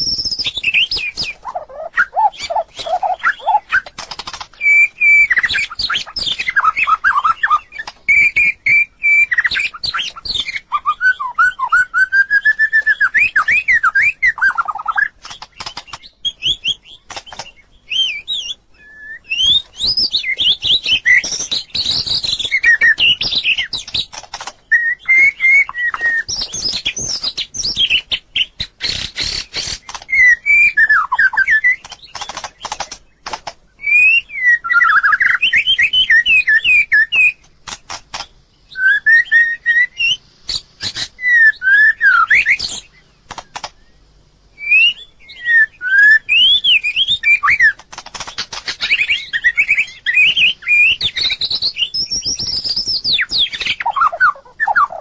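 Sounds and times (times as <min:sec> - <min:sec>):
bird singing whistled phrases: 0:00.0 - 0:03.9, 0:04.6 - 0:15.1, 0:15.9 - 0:24.0, 0:24.7 - 0:32.3, 0:33.8 - 0:37.4, 0:38.7 - 0:43.0, 0:44.6 - 0:47.8, 0:48.8 - 0:55.0.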